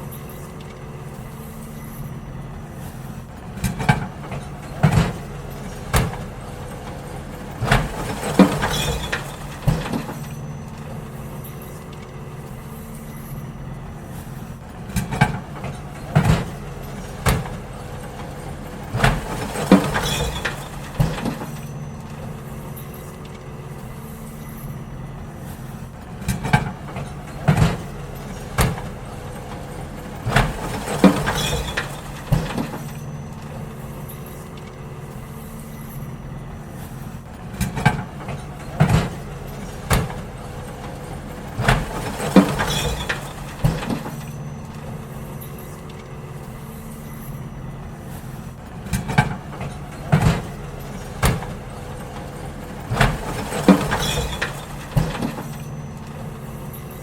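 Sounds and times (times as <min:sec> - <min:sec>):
bins banging and clattering: 0:00.0 - 0:57.0
garbage truck engine running: 0:00.0 - 0:57.0.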